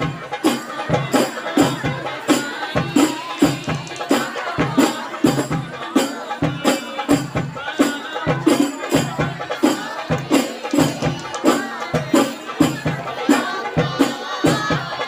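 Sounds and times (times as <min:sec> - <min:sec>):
frame drums beaten: 0:00.0 - 0:15.0
group singing devotional song: 0:00.0 - 0:15.0.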